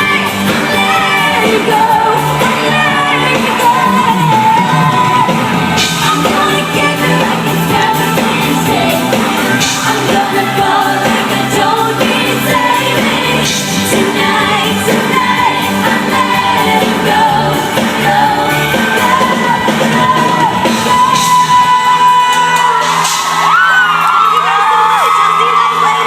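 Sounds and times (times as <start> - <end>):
fans shouting: 0.0 - 26.0
woman singing pop with band: 0.0 - 26.0.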